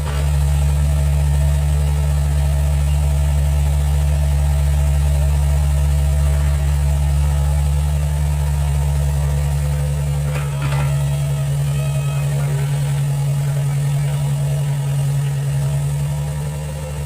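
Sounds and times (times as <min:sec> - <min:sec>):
excavator engine droning: 0:00.0 - 0:17.0.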